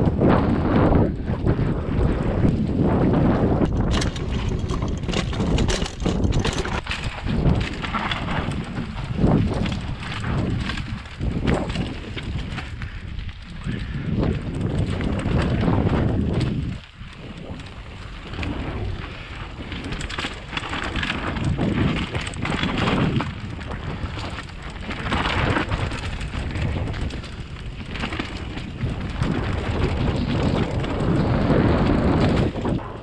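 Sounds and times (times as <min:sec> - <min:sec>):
bike rattling over bumps: 0:00.0 - 0:33.0
tyres rumbling on loose dirt: 0:00.0 - 0:33.0.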